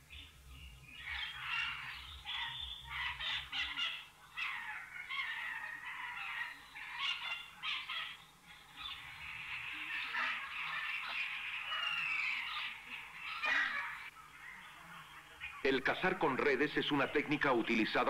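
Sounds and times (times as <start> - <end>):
harsh animal calls: 1.0 - 18.0.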